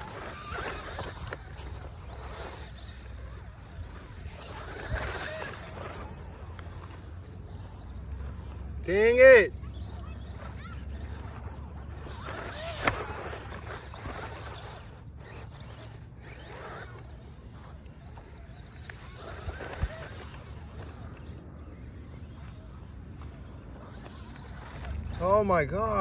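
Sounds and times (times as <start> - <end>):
electric motor whine: 0.0 - 26.0
tyres churning sand: 0.0 - 26.0.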